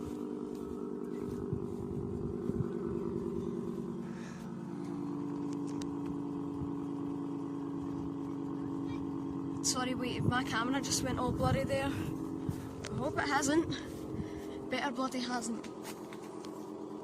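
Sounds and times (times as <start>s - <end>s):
electric siren steady tone: 0.0s - 15.0s.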